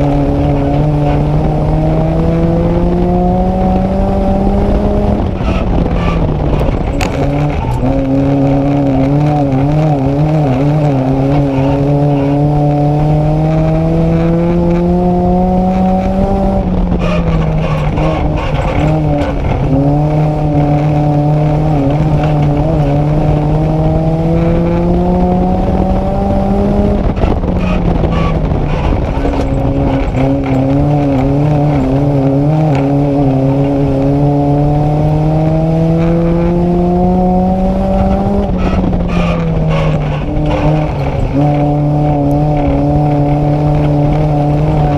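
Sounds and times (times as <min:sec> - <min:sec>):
car engine revving under load: 0:00.0 - 0:44.9.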